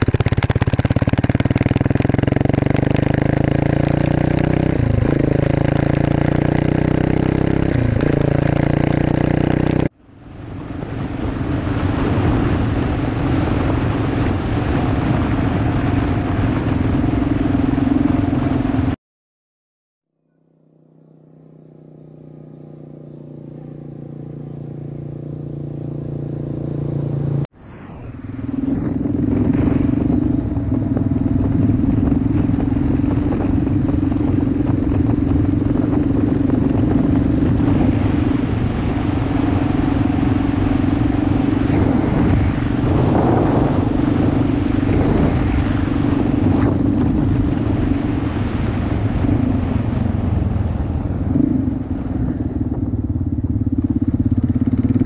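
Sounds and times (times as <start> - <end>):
motorcycle engine: 0.0 - 10.0, 20.1 - 27.5, 28.3 - 55.0.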